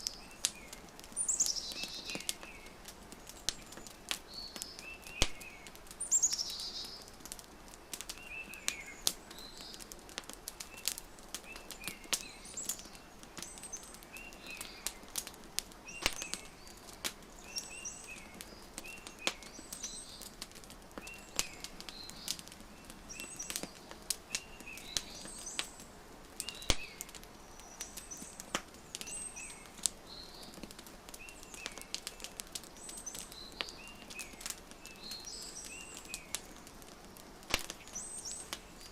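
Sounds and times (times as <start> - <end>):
small birds chirping: 0.0 - 38.9
wood fire crackling: 0.0 - 38.9.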